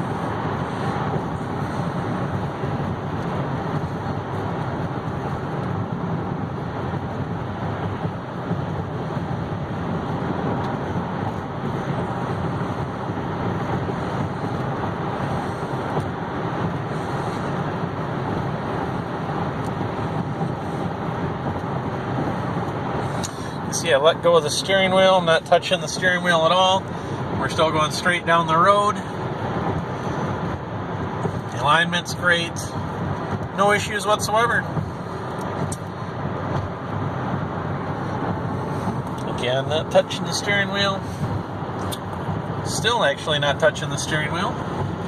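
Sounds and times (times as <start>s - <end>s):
car engine running: 0.0s - 45.0s
wind noise in car cabin: 0.0s - 45.0s.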